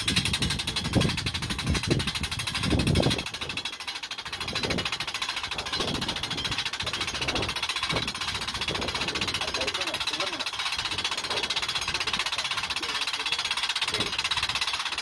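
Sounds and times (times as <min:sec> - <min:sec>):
pulsing machine noise: 0:00.0 - 0:15.0.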